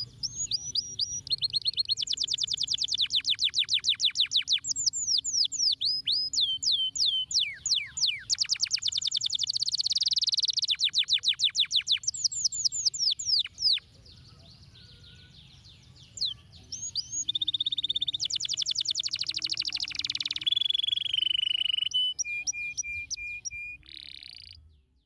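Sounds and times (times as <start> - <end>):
canary singing trills: 0.0 - 25.0.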